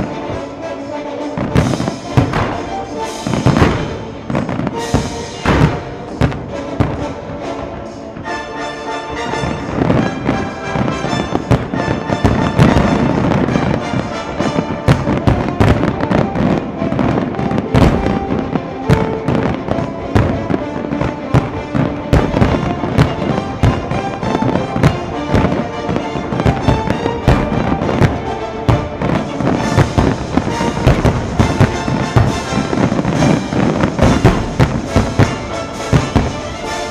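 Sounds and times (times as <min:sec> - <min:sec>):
firework bangs and crackles: 0:00.0 - 0:36.9
music: 0:00.0 - 0:36.9.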